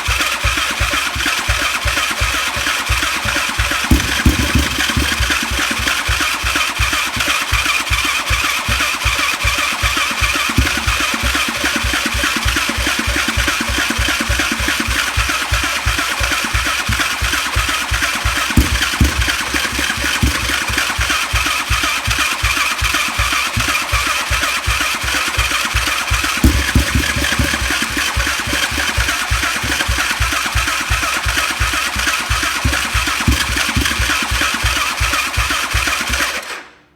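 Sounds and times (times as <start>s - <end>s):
engine cranking on starter: 0.0s - 36.8s.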